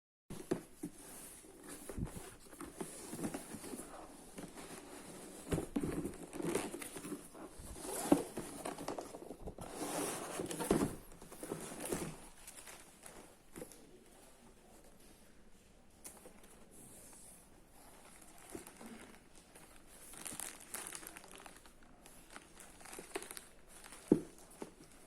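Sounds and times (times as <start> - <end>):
paper and plastic crinkling: 0.3 - 14.0, 17.8 - 25.0.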